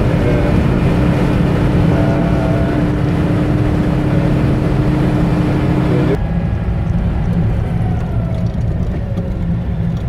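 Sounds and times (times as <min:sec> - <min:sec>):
car engine and road rumble: 0:00.0 - 0:10.0
droning hum: 0:00.0 - 0:10.0.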